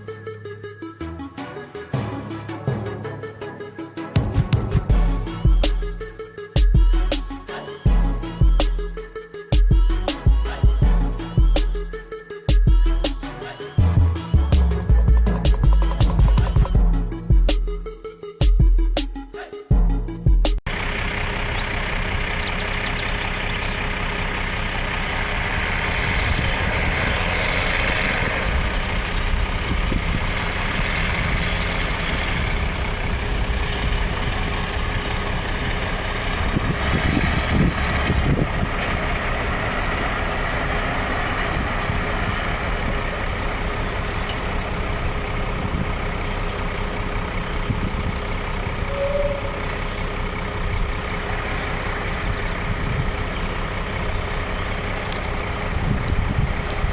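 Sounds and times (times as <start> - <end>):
heavy vehicle engine running: 0.0 - 56.9.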